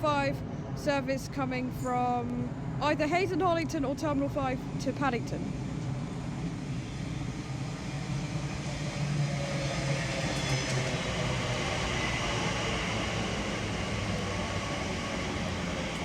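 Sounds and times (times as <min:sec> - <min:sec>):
electric train hum: 0:00.0 - 0:16.0.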